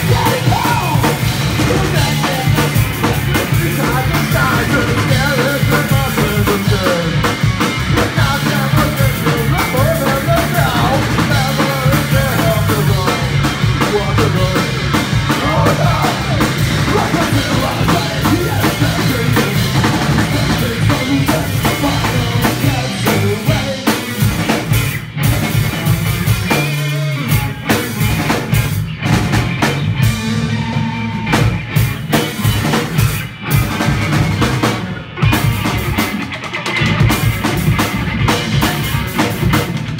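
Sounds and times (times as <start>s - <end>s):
punk band playing: 0.0s - 39.9s.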